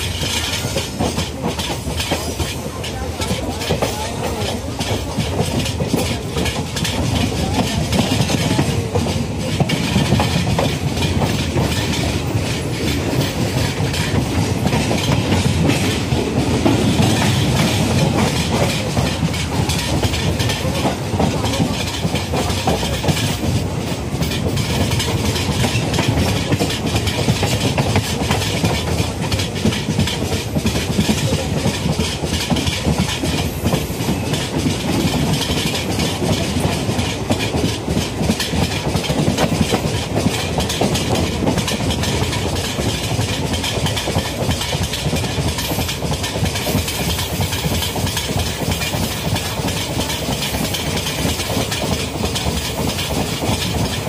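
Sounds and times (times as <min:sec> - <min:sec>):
train coach low rumble: 0:00.0 - 0:54.0
wheels clattering on rails: 0:00.0 - 0:54.0.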